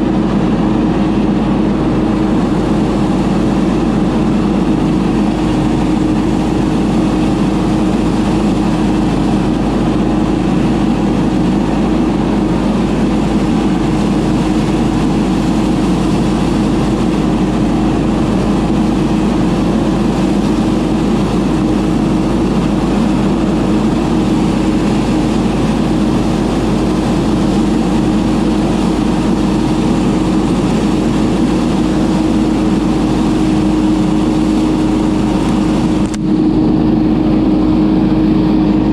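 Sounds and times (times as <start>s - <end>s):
debris blower engine hum: 0.0s - 38.9s
rush of air: 0.0s - 38.9s.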